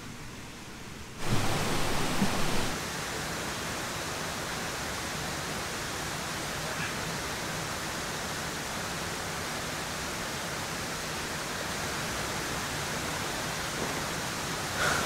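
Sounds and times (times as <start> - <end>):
river rushing: 1.1 - 15.0.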